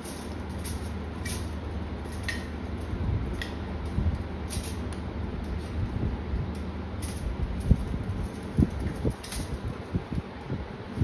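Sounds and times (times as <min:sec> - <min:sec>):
metal wire rack clicks: 0:00.0 - 0:05.8, 0:06.6 - 0:09.7
steady low rumble: 0:00.0 - 0:11.0.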